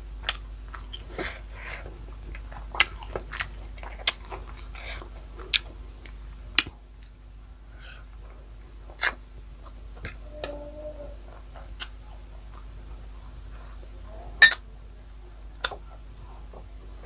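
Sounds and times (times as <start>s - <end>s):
person chewing food: 0.2s - 7.2s, 7.8s - 14.6s.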